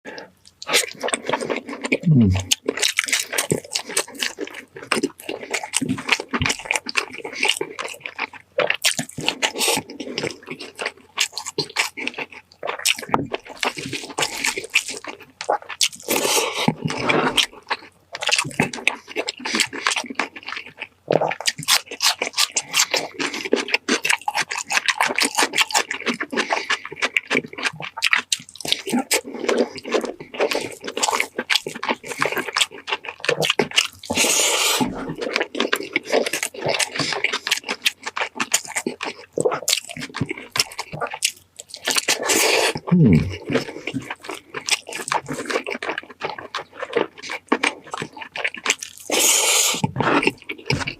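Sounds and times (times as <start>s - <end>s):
wet chewing: 0.1s - 50.9s.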